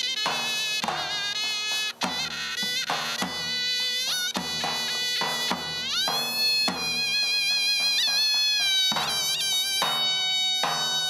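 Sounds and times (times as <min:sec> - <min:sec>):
big drum beats: 0:00.0 - 0:11.0
shrill double-reed melody: 0:00.0 - 0:11.0.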